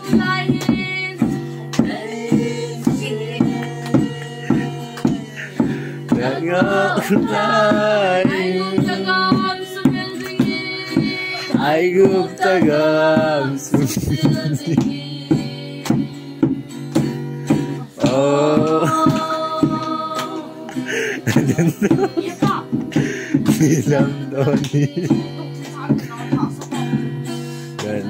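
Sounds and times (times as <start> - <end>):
group singing: 0.0 - 22.1, 23.5 - 25.9, 27.8 - 28.0
hands clapping a beat: 0.0 - 28.0
strummed acoustic guitar: 0.0 - 28.0.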